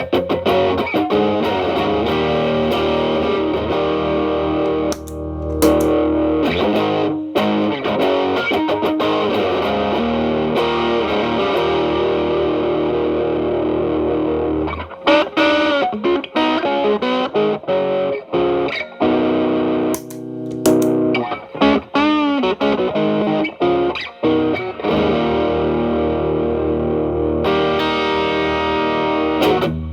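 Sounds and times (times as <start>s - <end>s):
overdriven electric guitar: 0.0s - 19.0s, 22.2s - 29.9s.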